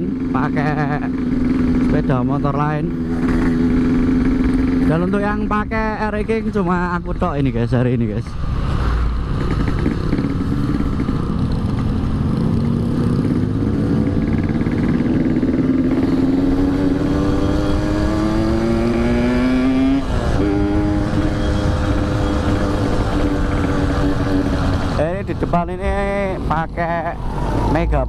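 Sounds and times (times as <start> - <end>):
motorcycle engine revving: 0.0 - 28.0
wind and road noise rumble: 0.0 - 28.0.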